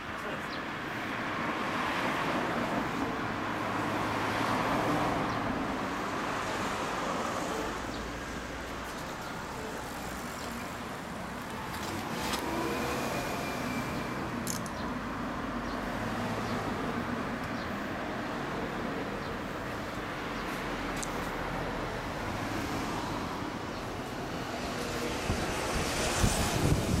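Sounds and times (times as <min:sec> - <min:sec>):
passing traffic: 0:00.0 - 0:27.0.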